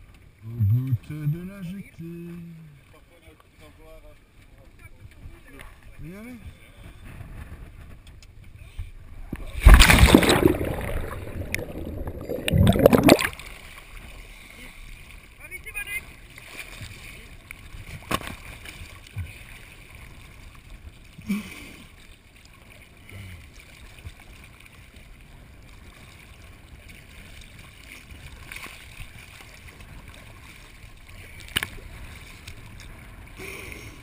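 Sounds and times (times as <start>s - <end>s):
water sloshing and lapping: 0.0s - 34.0s.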